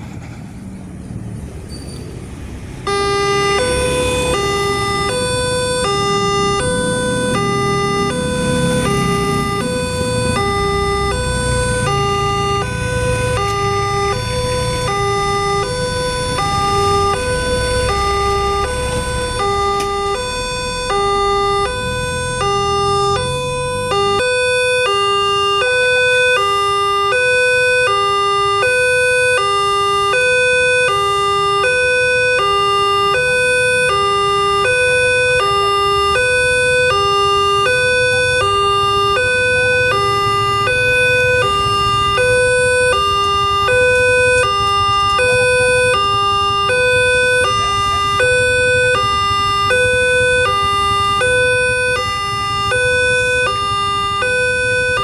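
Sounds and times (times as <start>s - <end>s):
level crossing siren high-low tones: 2.8s - 55.0s.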